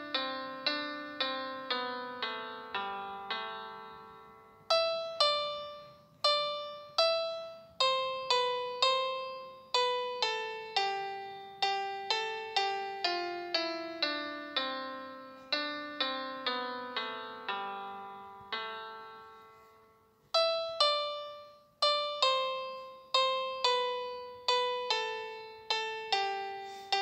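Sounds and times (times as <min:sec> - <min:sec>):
slow piano melody: 0:00.0 - 0:27.0.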